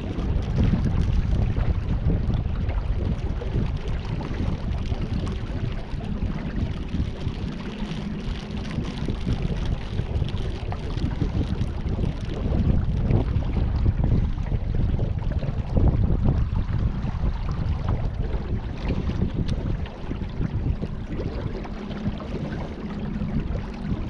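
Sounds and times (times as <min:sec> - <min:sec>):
water moving around hull: 0:00.0 - 0:24.0
wind buffeting microphone: 0:00.0 - 0:24.0.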